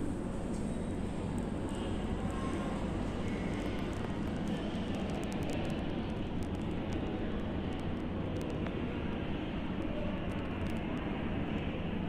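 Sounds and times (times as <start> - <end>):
ceiling fans rushing air: 0.0 - 12.0.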